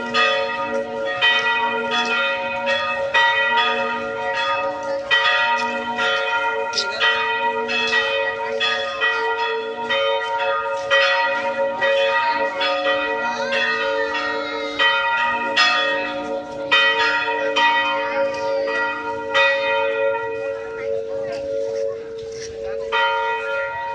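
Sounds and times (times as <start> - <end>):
church bells pealing: 0.0 - 23.9.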